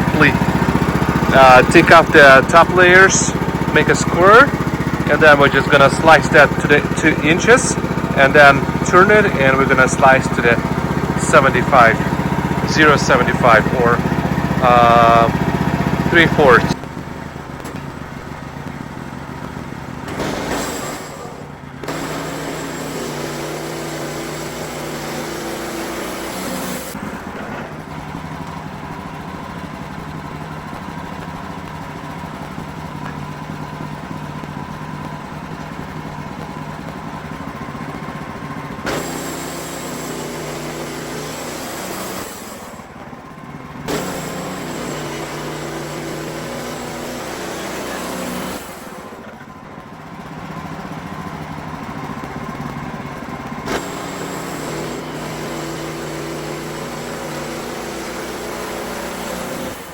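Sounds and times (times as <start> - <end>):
band saw cutting log: 0.0 - 31.7, 38.8 - 43.1, 43.8 - 49.4, 53.6 - 59.9
sawmill engine running: 0.0 - 59.9.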